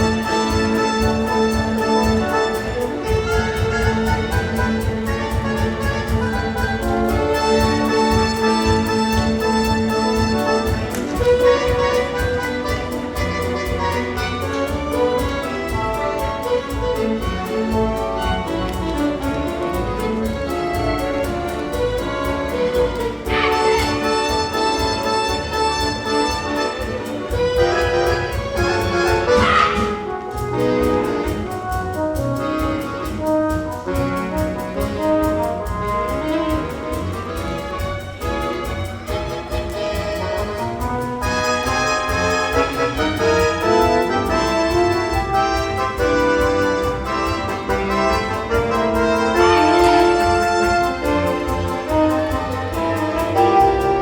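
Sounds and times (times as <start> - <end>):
bowed strings holding long notes: 0.0 - 54.0
orchestra playing: 0.0 - 54.0.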